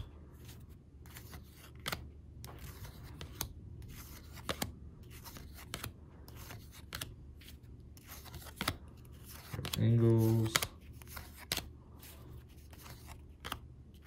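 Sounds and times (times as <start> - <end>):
cards sliding against cards: 0.0 - 14.0.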